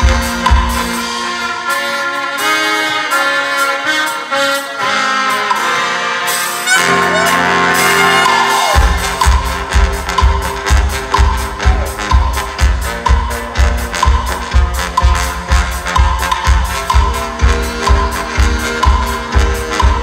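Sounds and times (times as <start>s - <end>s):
brass band playing held chords: 0.0s - 20.0s.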